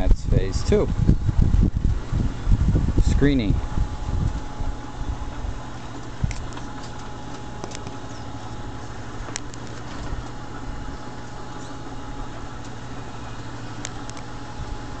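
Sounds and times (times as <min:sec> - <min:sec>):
trommel screen mechanical hum: 0:00.0 - 0:15.0.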